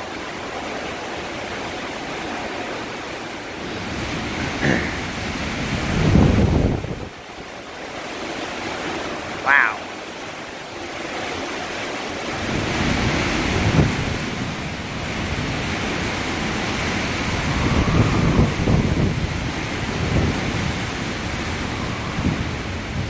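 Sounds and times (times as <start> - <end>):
wind buffeting microphone: 0.0 - 8.8, 12.2 - 23.0
strong wind gusting: 0.0 - 9.7, 12.1 - 23.0.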